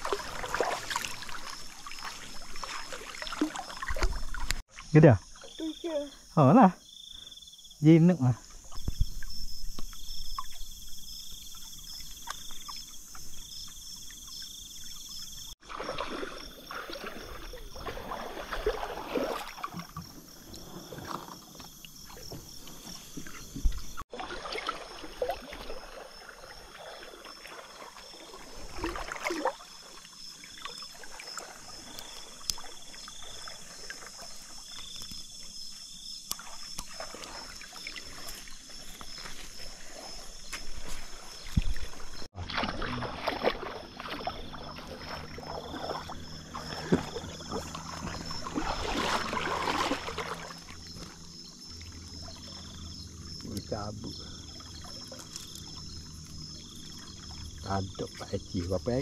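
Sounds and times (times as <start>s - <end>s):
river water sloshing and splashing: 0.0s - 6.0s, 8.4s - 58.5s
insects chirping: 0.0s - 59.0s.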